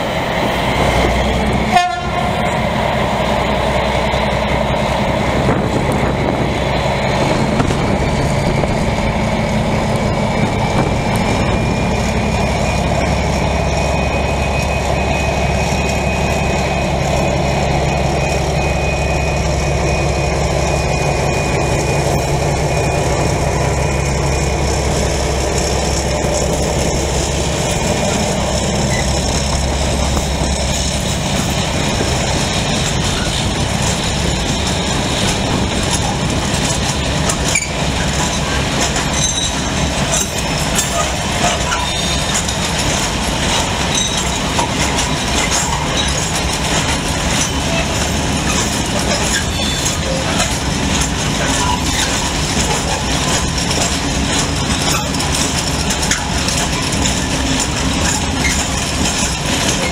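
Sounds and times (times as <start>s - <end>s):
diesel locomotive engine running: 0.0s - 59.9s
freight wagons rolling past: 0.0s - 59.9s.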